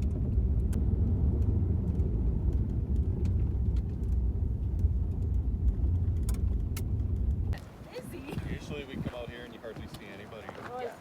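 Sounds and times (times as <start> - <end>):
vehicle rumbling on gravel road: 0.0 - 11.0.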